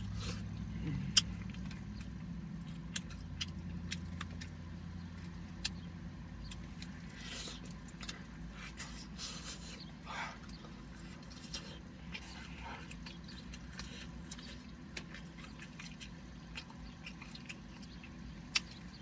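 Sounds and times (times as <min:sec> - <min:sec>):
eating with hands smacking: 0:00.0 - 0:19.0
low hum inside car: 0:00.0 - 0:19.0.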